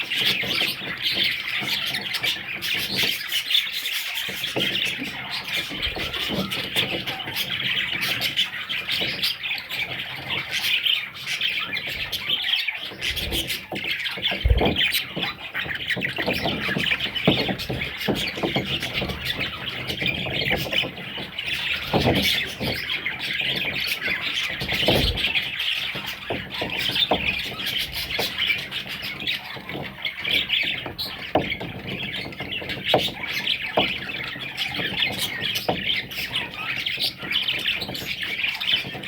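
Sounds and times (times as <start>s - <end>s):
budgerigars chattering and squawking: 0.0s - 39.0s.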